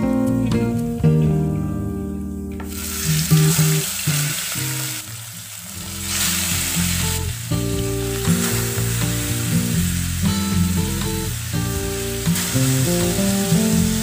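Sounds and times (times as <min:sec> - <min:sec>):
guitar music: 0:00.0 - 0:14.0
fish sizzling in hot oil: 0:02.7 - 0:14.0.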